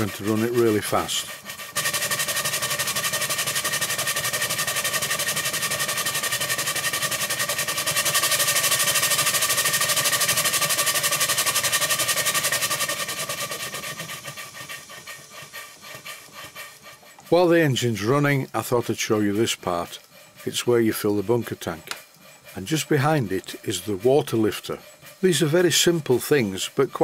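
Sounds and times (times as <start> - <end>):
steam engine exhaust beats: 0.0 - 27.0.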